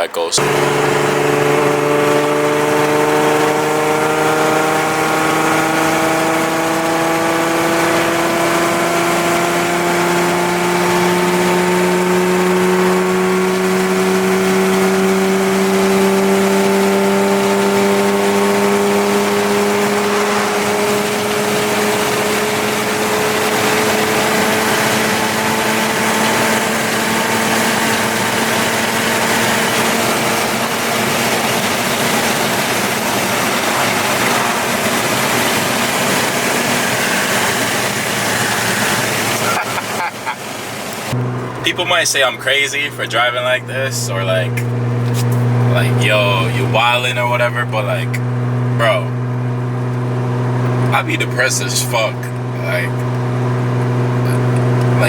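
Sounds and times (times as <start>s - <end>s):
car engine through loud exhaust: 0.0s - 55.0s.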